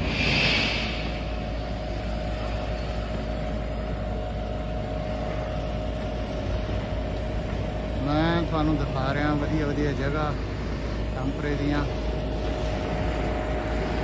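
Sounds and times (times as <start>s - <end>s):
faint steady hum: 0.0s - 14.0s
traffic rumble: 0.0s - 14.0s.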